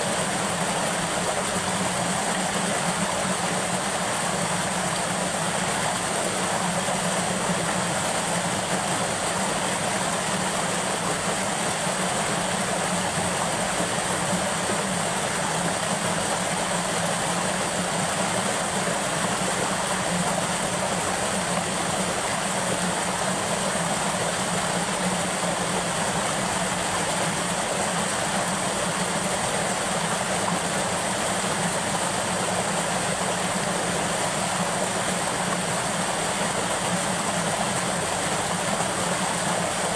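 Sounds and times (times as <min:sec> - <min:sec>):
water pouring over a spillway: 0:00.0 - 0:39.9.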